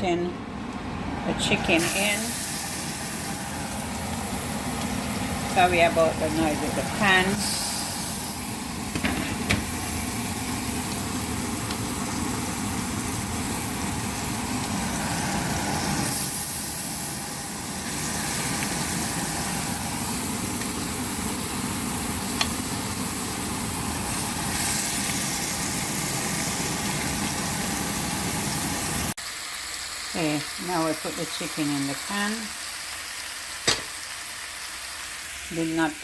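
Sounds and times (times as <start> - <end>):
chicken sizzling in a pan: 1.8 - 36.0.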